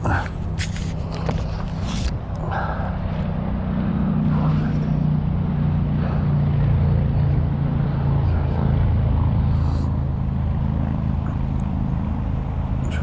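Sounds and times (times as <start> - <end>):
two-stroke engine running: 0.0 - 13.0.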